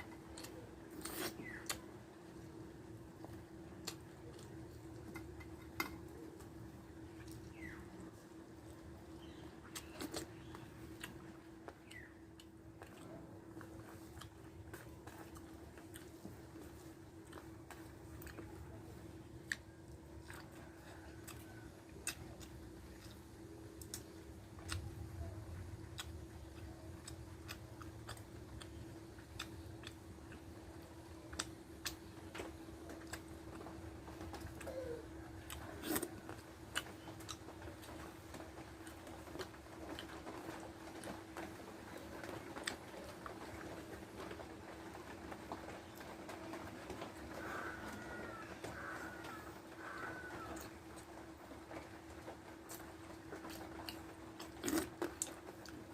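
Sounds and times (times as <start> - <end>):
person chewing food: 0.0 - 42.8, 53.4 - 55.8
steady low hum: 0.0 - 55.9.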